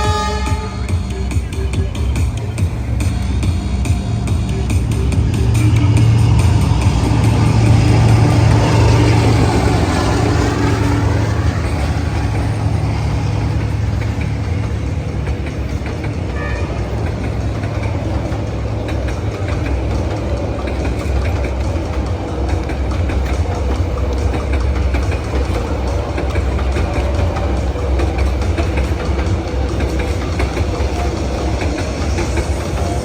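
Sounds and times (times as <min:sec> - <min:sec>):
diesel train engine drone: 0:00.0 - 0:33.0
rail noise: 0:00.0 - 0:33.0.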